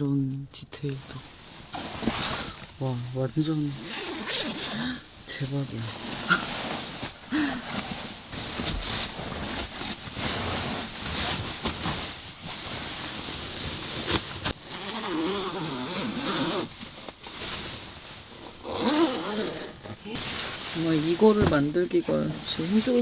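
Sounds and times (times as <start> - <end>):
fabric rustling: 0.0 - 23.0.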